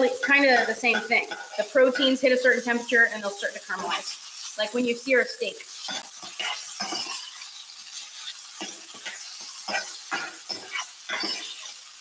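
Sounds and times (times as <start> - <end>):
metal spoon scraping pan: 0.0 - 4.6, 5.7 - 11.8
vegetables sizzling in oil: 0.0 - 12.0.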